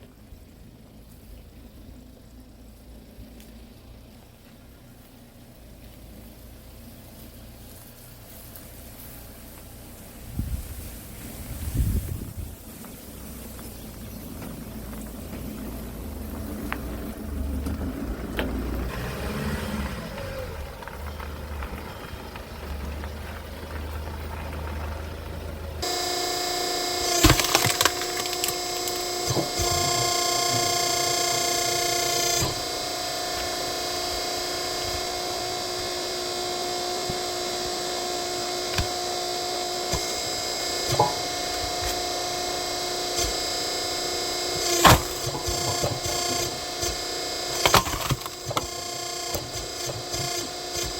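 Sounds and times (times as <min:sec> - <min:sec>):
hydraulic pump whine: 0:00.0 - 0:50.9
log splitter low rumble: 0:00.0 - 0:50.9
logs cracking and splitting: 0:00.8 - 0:50.9.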